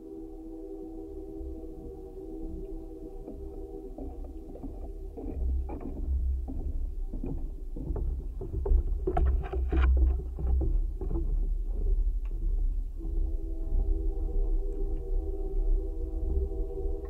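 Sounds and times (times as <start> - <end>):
footsteps on wooden boardwalk: 1.4 - 17.0.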